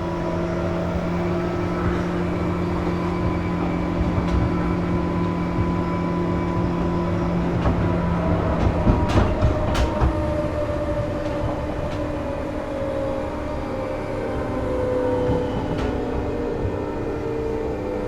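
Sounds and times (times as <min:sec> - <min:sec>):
electric train whining: 0:00.0 - 0:18.0
wheel and track rumble: 0:00.0 - 0:18.0.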